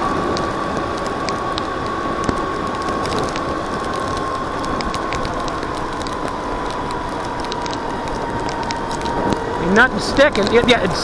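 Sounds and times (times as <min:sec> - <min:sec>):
electric motorcycle motor whining: 0:00.0 - 0:11.0
tyre noise on wet street: 0:00.0 - 0:11.0
wind: 0:00.0 - 0:11.0.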